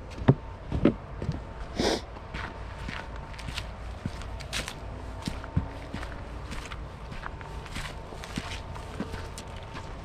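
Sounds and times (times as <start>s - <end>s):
footsteps on dry leaves: 1.6s - 10.0s.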